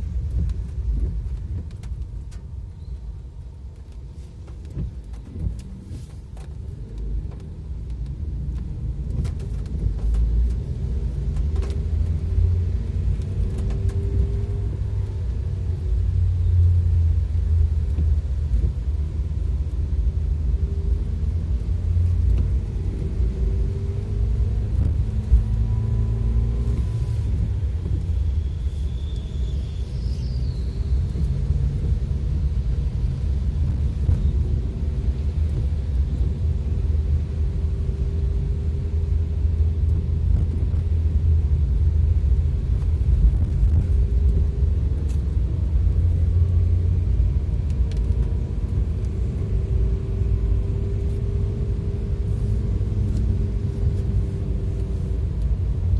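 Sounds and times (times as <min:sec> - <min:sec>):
vehicle engine and tyre rumble: 0:00.0 - 0:55.9.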